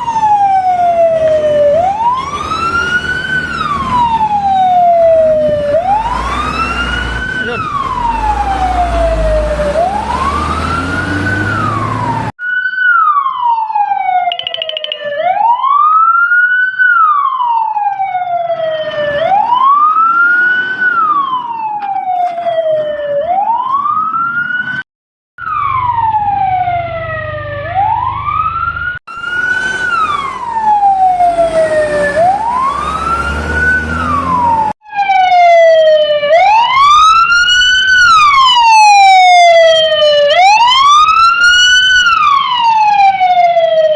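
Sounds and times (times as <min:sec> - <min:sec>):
fire truck siren wailing: 0:00.0 - 0:24.8, 0:25.4 - 0:43.9.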